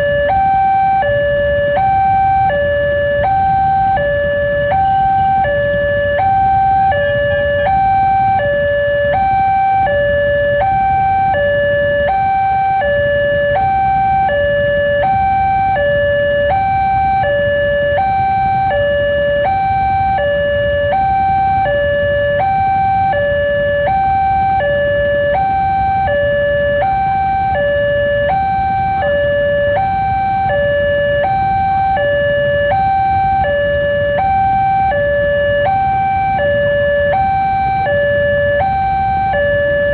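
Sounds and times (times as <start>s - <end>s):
level crossing two-tone alarm: 0.0s - 39.9s
low rumble of traffic: 0.0s - 39.9s.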